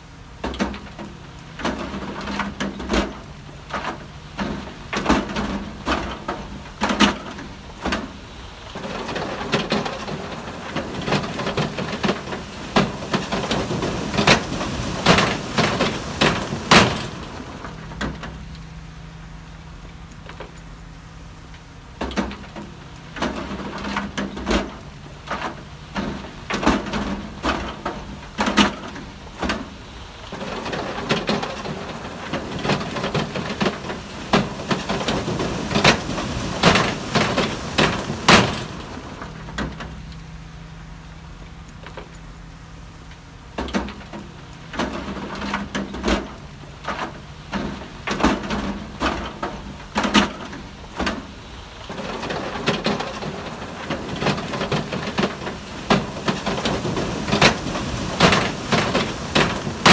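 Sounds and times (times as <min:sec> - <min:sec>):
heavy machine diesel engine: 0:00.0 - 0:59.9
sharp clanks and knocks: 0:00.4 - 0:18.8, 0:19.8 - 0:20.8, 0:21.5 - 0:40.4, 0:41.4 - 0:42.4, 0:43.1 - 0:59.9.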